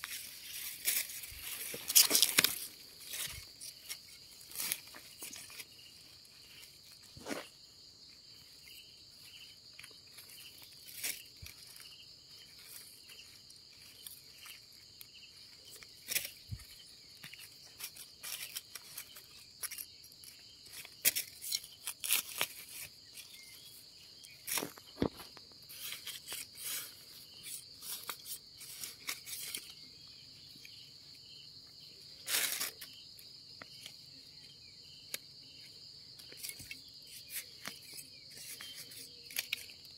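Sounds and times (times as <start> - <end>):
dry leaves and twigs snapping: 0.0 - 7.6, 8.3 - 30.8, 32.2 - 35.3, 36.2 - 39.9
insects chirring: 0.0 - 39.9.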